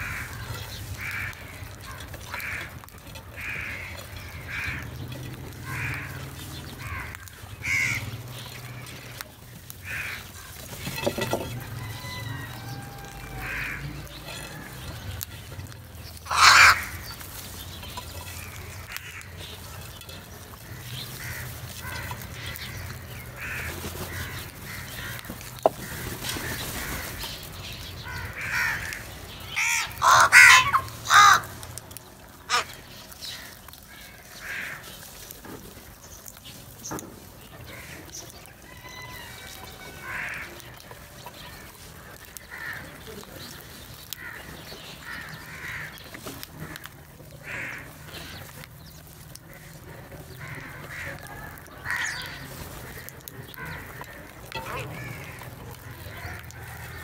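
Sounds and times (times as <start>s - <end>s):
crows cawing: 0.0s - 35.3s, 36.6s - 57.0s.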